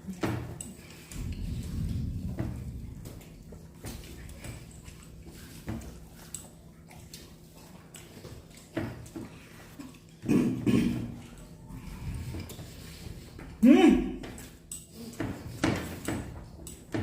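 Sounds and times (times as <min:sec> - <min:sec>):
soft mouth and plate sounds: 0:00.0 - 0:17.0.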